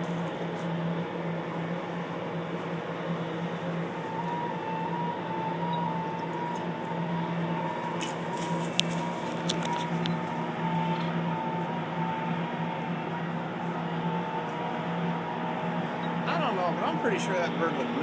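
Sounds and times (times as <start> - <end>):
low mechanical hum with hiss: 0.0 - 18.0
thin wavering high tone: 0.9 - 18.0.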